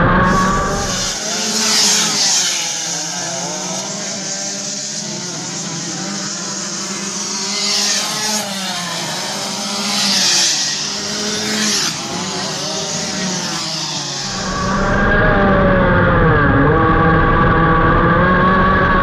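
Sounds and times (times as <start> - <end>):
karts racing past: 0.0 - 19.0.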